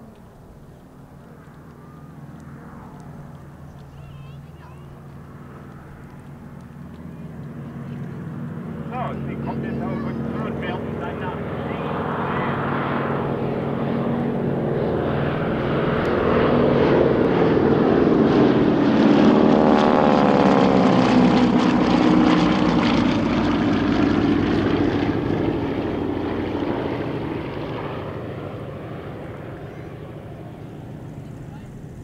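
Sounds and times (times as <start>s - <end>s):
propeller aircraft engine drone: 0.0s - 32.0s.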